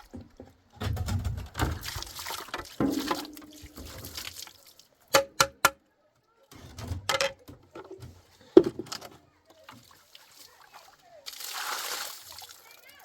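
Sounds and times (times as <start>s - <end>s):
water pouring and sloshing: 0.0s - 5.1s, 6.4s - 13.0s.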